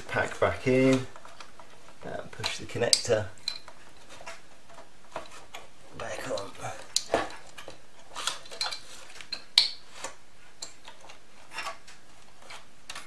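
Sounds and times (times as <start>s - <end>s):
plastic and metal clicks and scrapes: 0.1s - 13.0s.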